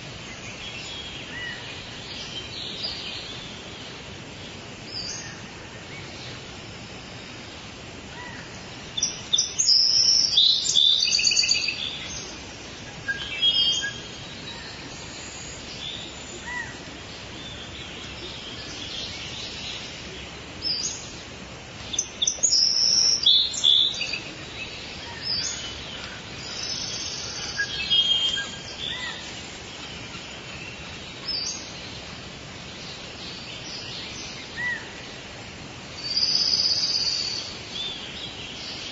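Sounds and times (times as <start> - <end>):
birds calling and singing: 0.0 - 38.9
forest background hiss: 0.0 - 38.9.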